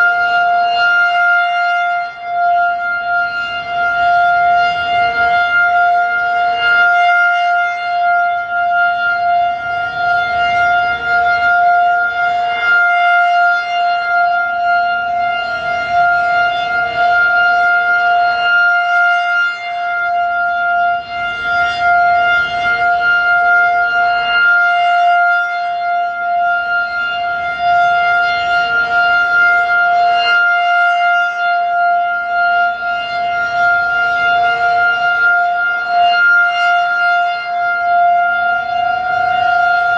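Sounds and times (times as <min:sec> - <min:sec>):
outdoor warning siren alert tone: 0:00.0 - 0:39.9.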